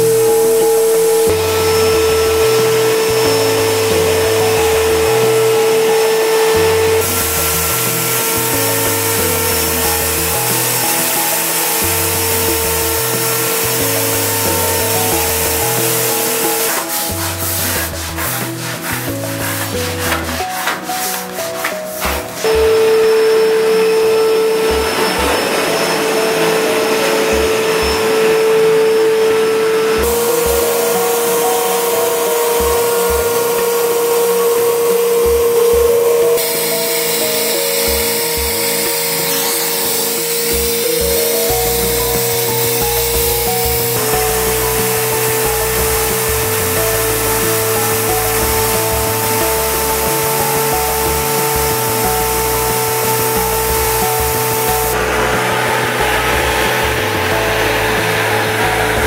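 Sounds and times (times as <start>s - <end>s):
background music: 0.0s - 59.0s
vacuum cleaner motor whining: 0.0s - 59.0s.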